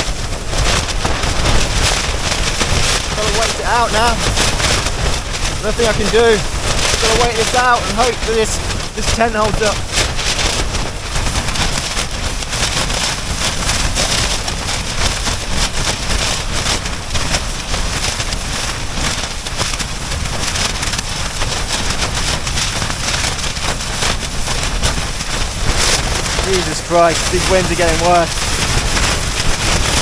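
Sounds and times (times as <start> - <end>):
low rumble of wind: 0.0 - 30.0
snow hissing against tent: 0.0 - 30.0
tent fabric flapping: 0.0 - 30.0.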